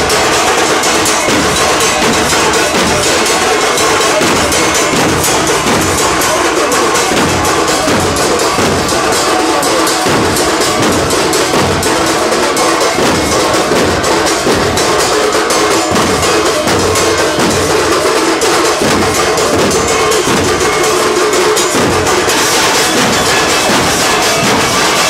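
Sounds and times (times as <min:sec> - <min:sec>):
drums beaten with sticks: 0:00.0 - 0:25.0.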